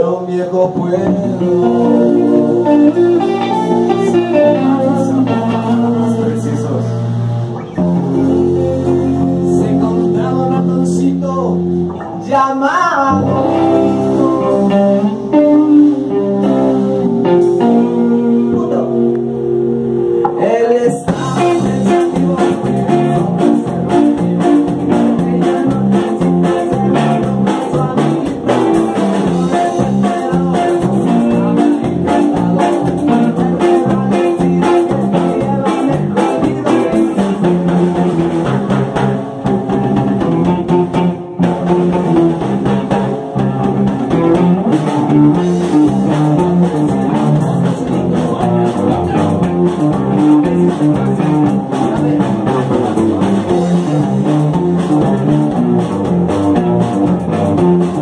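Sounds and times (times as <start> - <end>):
driving drum beat: 0.0 - 12.0, 13.2 - 19.1, 20.2 - 58.0
electric guitars and bass chords: 0.0 - 58.0.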